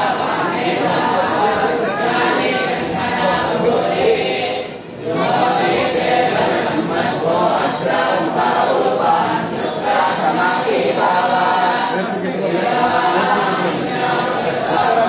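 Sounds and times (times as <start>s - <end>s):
group chanting in unison: 0.0s - 15.0s.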